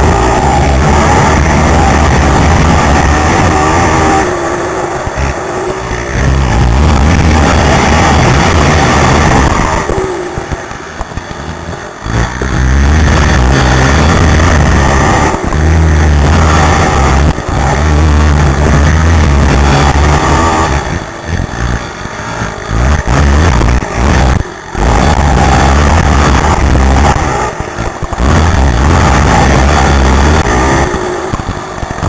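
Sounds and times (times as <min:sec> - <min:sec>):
quad engine at full throttle: 0:00.0 - 0:32.0.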